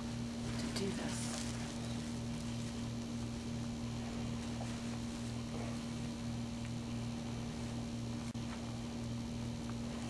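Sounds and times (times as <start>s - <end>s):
faint pulsing drone: 0.0s - 10.0s
steady low hum: 0.0s - 10.0s.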